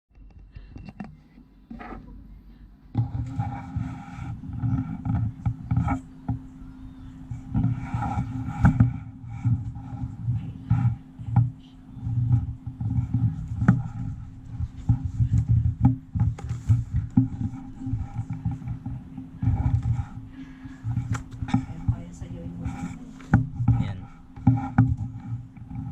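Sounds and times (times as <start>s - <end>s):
steady low hum: 0.1s - 25.9s.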